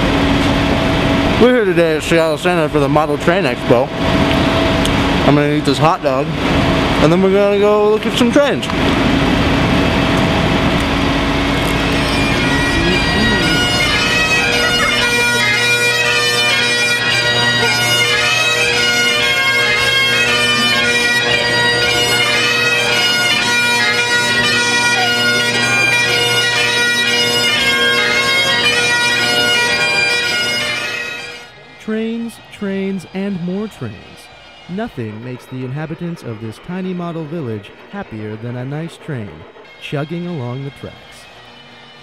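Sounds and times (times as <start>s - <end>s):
bagpipe music: 0.0s - 42.0s.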